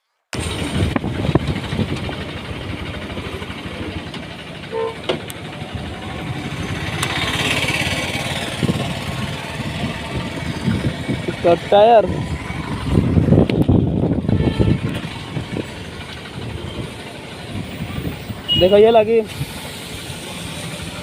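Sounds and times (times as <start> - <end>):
vehicle engines running: 0.4 - 21.0.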